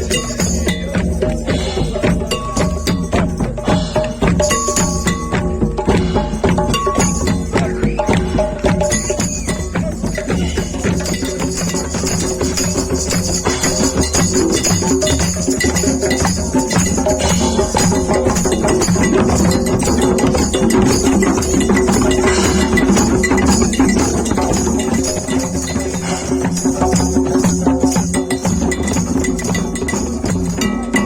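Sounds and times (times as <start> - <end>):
fast percussion: 0.0 - 31.0
music with pitched instruments: 0.0 - 31.0.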